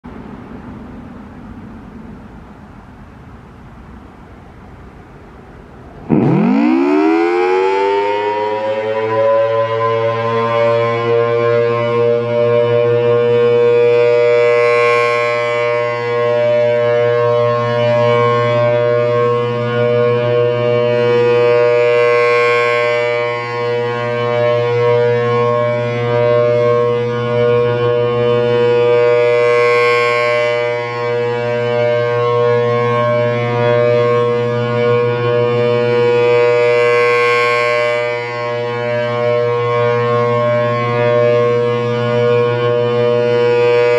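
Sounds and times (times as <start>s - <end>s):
siren two-note chord: 6.0s - 43.9s.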